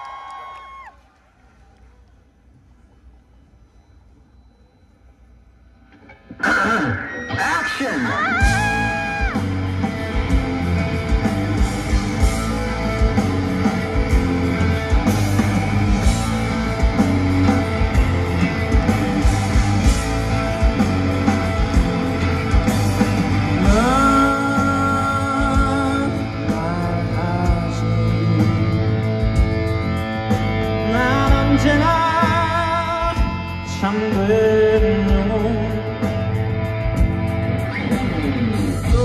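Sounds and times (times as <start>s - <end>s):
live rock band playing: 5.9s - 39.0s.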